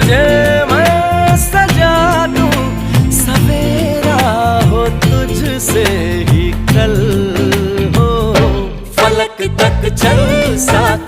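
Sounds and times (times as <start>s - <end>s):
film song music with steady beat: 0.0s - 11.0s.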